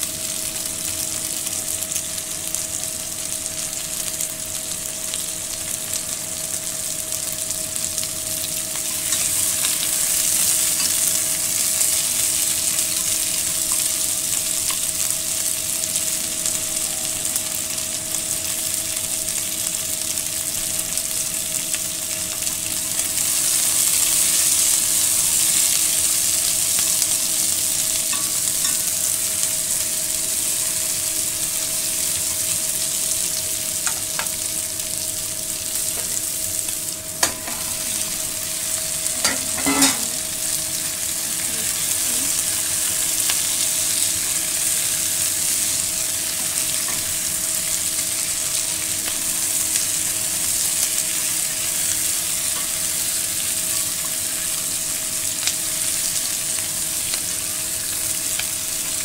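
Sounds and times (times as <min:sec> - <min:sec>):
vegetables sizzling in a pot: 0:00.0 - 0:59.0.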